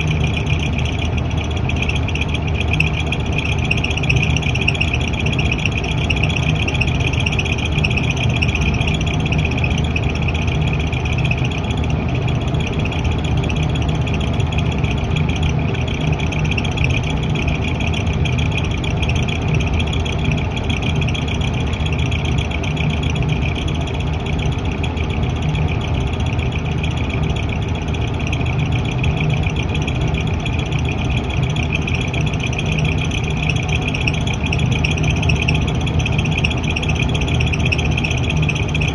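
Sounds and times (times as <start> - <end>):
exhaust fan humming and whining: 0.0 - 38.9.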